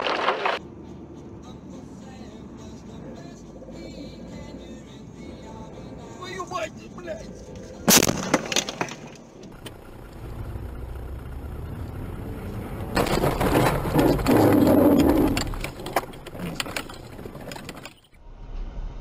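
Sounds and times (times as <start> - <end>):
car engine and road rumble: 0.4 - 19.0.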